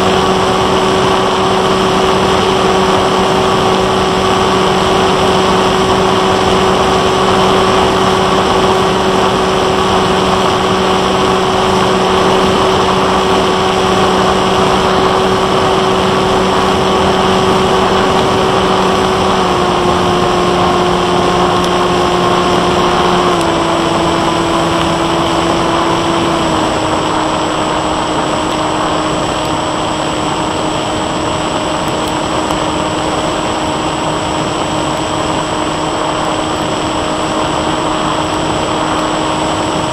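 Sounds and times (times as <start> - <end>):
electric motor and propeller drone: 0.0 - 39.9
rushing airflow: 0.0 - 39.9.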